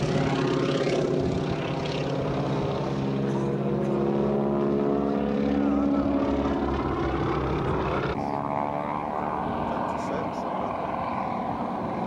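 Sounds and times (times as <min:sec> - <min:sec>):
biplane propeller drone overhead: 0:00.0 - 0:12.0.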